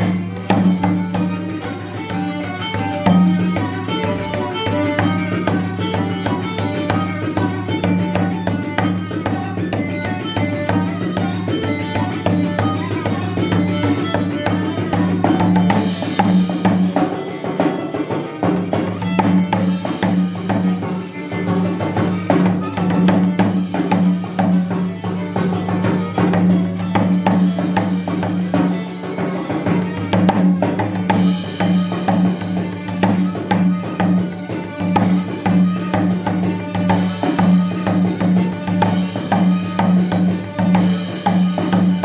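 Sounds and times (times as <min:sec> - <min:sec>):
fast percussion strokes: 0:00.0 - 0:42.0.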